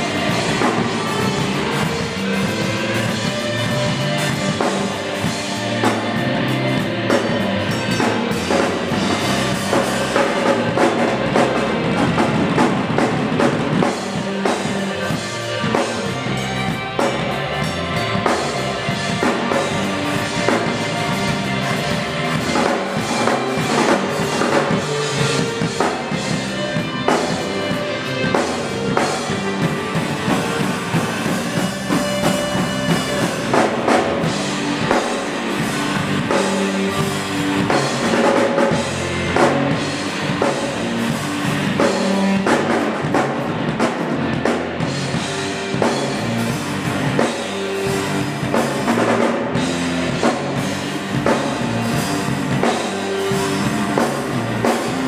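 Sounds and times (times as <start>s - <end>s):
drum kit: 0.0s - 55.0s
live band playing: 0.0s - 55.0s.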